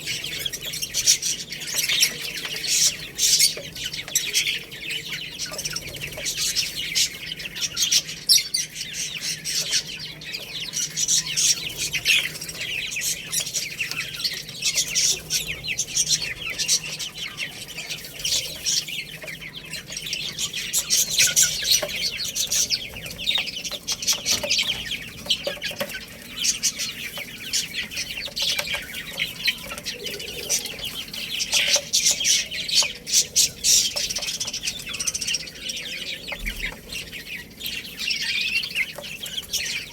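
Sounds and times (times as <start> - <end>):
chicks chirping: 0.0 - 39.9.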